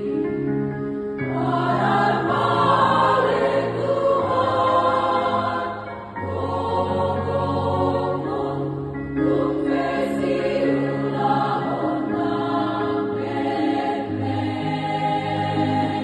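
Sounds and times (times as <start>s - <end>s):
women's choir singing a hymn: 0.0s - 0.6s, 1.2s - 16.0s.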